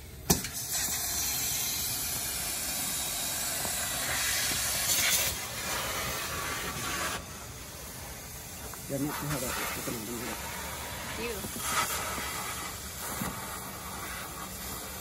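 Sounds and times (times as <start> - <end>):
compressed air hissing: 0.3 - 15.0.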